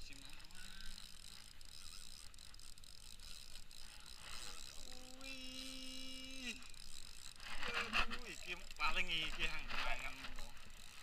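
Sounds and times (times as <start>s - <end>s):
fishing reel clicking: 0.0s - 11.0s.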